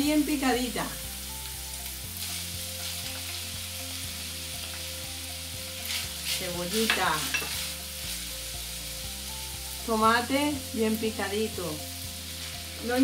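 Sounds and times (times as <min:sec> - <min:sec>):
meat and onion sizzling: 0:00.0 - 0:13.0.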